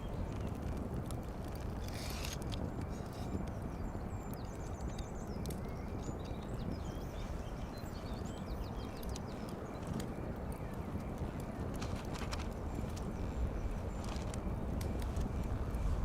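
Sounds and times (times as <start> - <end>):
low rumbling noise: 0.0 - 16.0
small birds chirping: 0.0 - 16.0.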